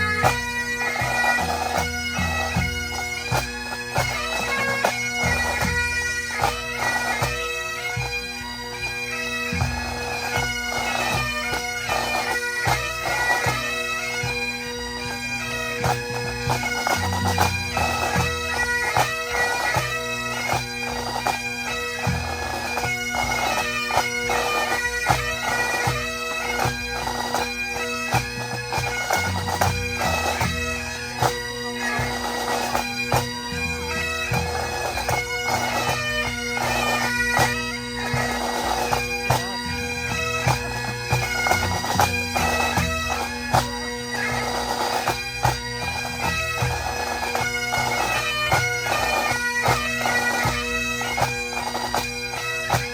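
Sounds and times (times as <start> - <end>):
bagpipes playing a tune: 0.0 - 52.9.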